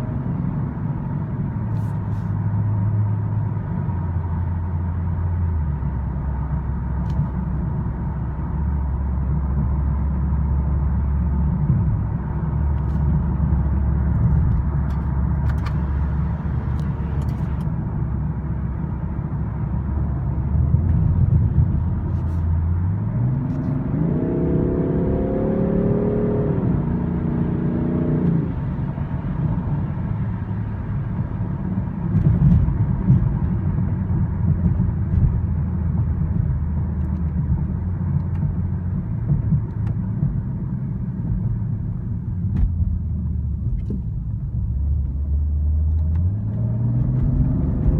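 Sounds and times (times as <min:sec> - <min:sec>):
car engine droning inside cabin: 0:00.0 - 0:47.9.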